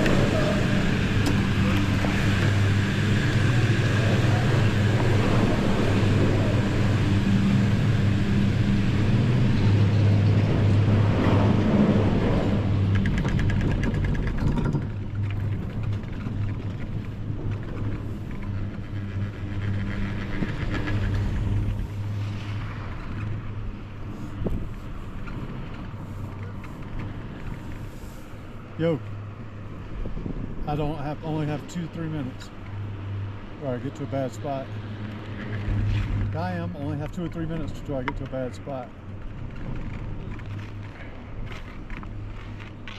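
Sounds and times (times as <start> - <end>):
chairlift machinery humming: 0.0 - 42.9.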